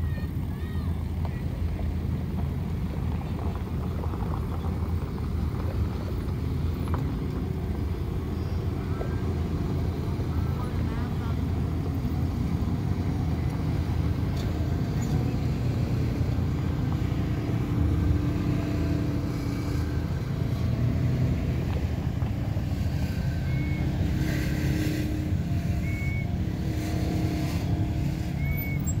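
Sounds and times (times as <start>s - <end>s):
engines idling: 0.0s - 29.0s.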